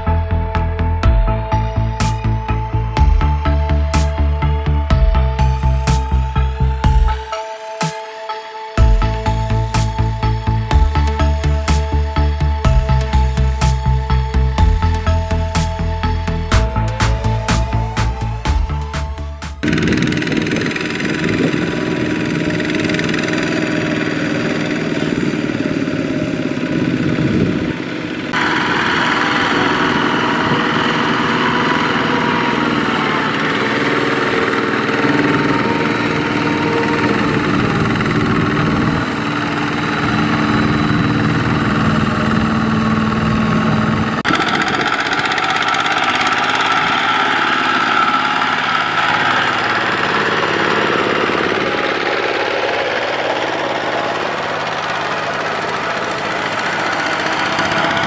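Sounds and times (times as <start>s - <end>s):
diesel tractor engines running: 0.0s - 58.0s.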